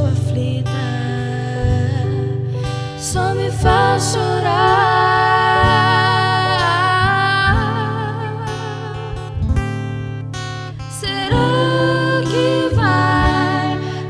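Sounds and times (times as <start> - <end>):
acoustic guitar: 0.0 - 14.0
person singing a slow ballad: 0.0 - 14.0.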